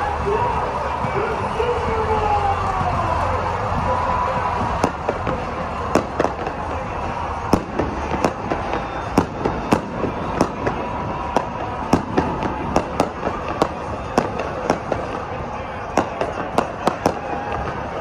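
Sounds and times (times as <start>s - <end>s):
steady background din: 0.0s - 18.0s
fireworks bangs: 2.9s - 18.0s.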